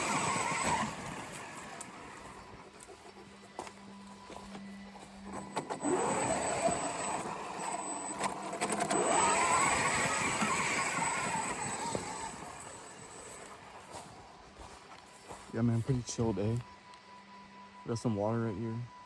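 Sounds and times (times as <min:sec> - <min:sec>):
electric motor whining: 0:00.0 - 0:18.7.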